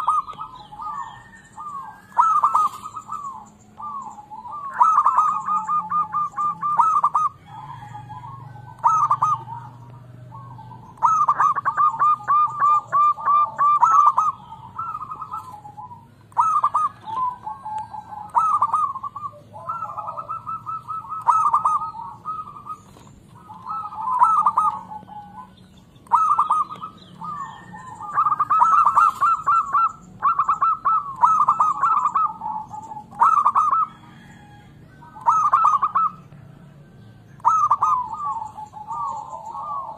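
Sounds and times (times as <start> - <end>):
doves rolling coos: 0.0 - 39.9.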